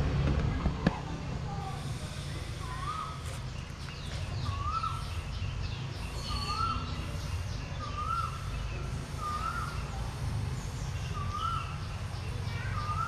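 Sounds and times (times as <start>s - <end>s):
birds chirping faintly: 0.5s - 13.0s.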